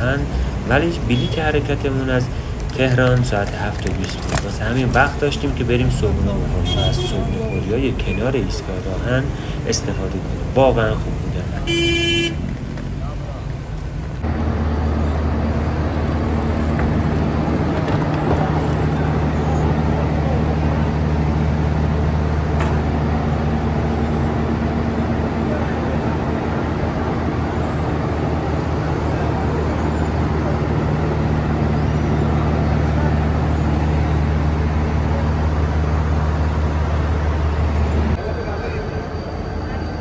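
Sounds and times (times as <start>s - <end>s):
diesel train engine idling: 0.0s - 40.0s.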